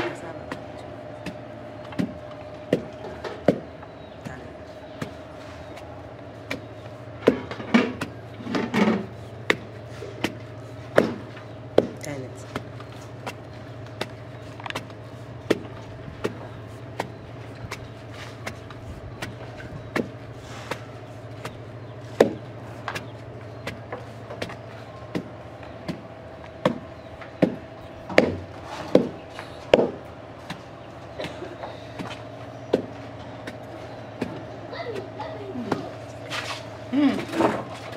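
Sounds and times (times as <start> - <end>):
pestle pounding in wooden mortar: 0.0 - 30.6, 31.2 - 36.0.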